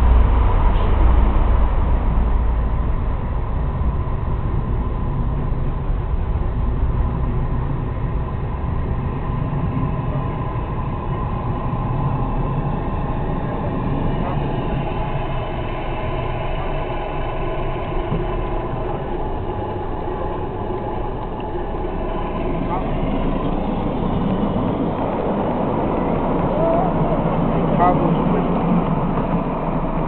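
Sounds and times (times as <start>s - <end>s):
miniature train rumbling on track: 0.0s - 30.0s.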